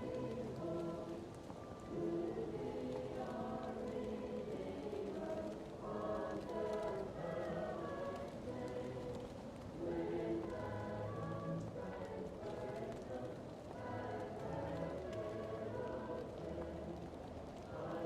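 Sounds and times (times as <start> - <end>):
faint wood fire crackling: 0.0 - 18.0
muffled choir singing: 0.0 - 18.0.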